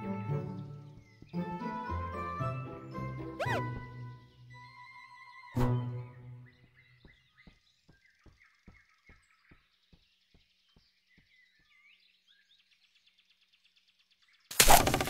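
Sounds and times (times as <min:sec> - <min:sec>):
soft bird chirps: 0:00.0 - 0:01.4, 0:02.7 - 0:15.0.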